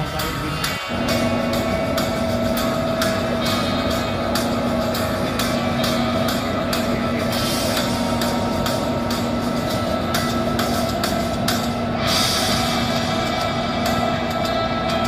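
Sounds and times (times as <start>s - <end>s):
subway train hum: 0.0s - 15.0s.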